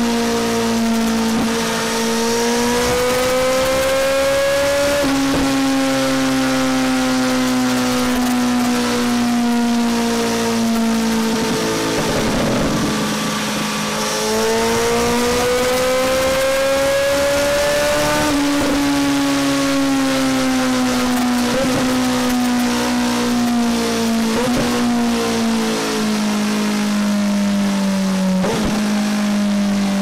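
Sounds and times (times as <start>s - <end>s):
motorcycle engine revving under load: 0.0s - 30.0s.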